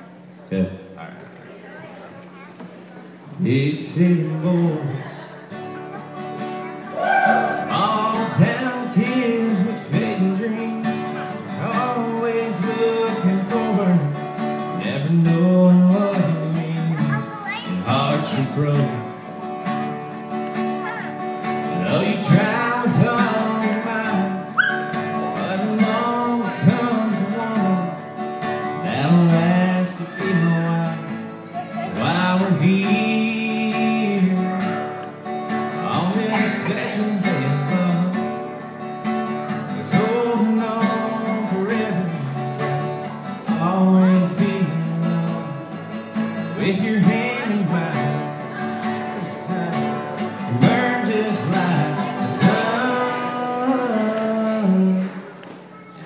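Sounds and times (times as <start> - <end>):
acoustic guitar: 0.0 - 56.0
second guitar: 2.1 - 56.0
man singing into a microphone: 3.4 - 5.3, 7.3 - 19.3, 21.6 - 28.1, 28.7 - 35.0, 35.7 - 38.6, 39.5 - 55.4.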